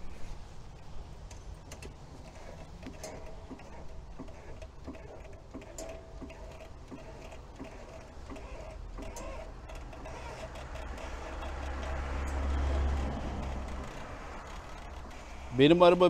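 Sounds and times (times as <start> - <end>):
hydraulic jack pump clicking: 1.7 - 15.4.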